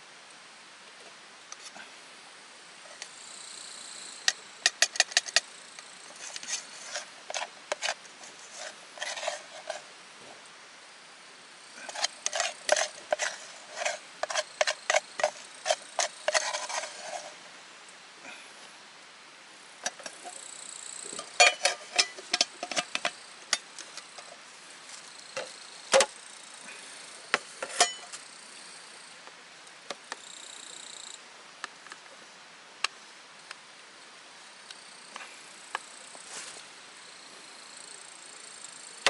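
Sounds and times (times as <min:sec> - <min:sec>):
faint high-pitched buzzing: 0:00.0 - 0:39.0.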